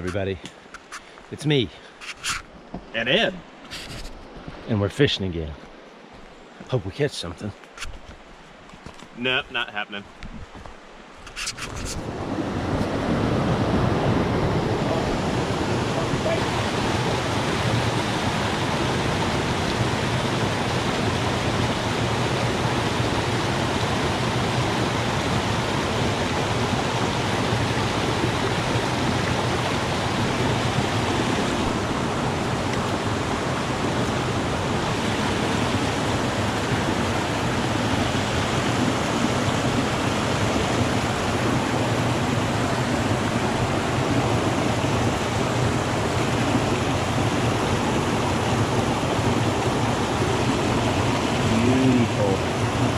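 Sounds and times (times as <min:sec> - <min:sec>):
mountain stream rushing: 0:00.0 - 0:52.9.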